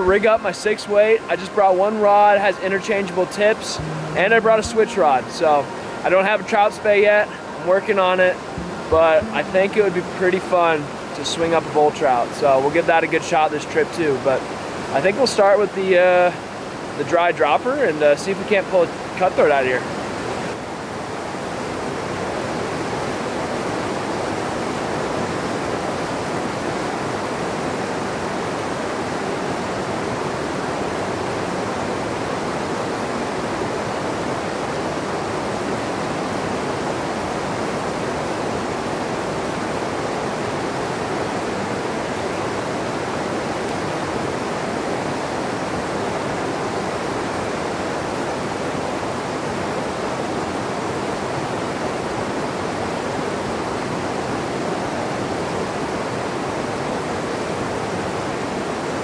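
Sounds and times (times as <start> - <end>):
river rushing over rapids: 0.0 - 59.0.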